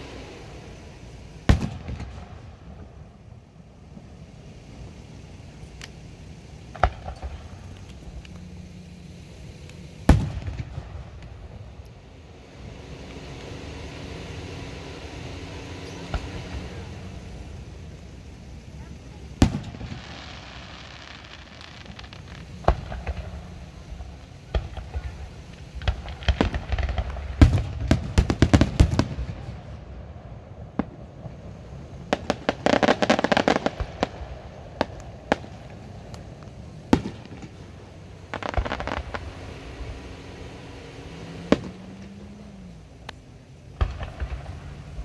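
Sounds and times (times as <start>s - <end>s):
firework bangs: 0.0s - 45.0s
firework crackling: 0.0s - 45.0s.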